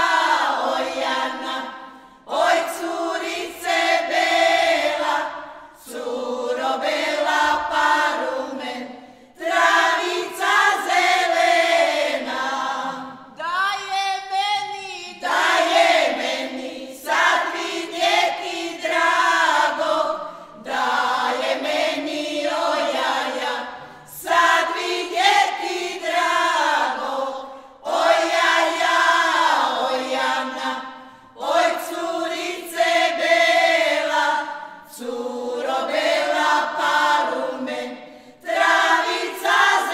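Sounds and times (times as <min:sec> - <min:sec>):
women's choir singing a cappella: 0:00.0 - 0:39.9.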